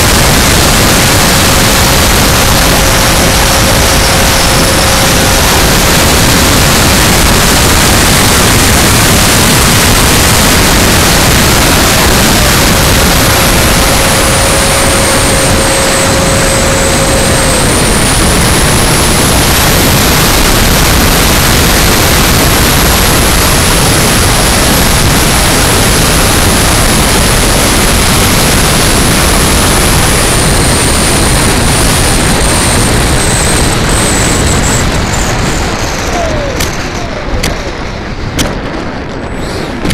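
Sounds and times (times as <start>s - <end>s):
steady low tone: 0.0s - 38.4s
electric ducted fan whine: 0.0s - 39.9s
wind rushing on microphone: 0.0s - 39.9s.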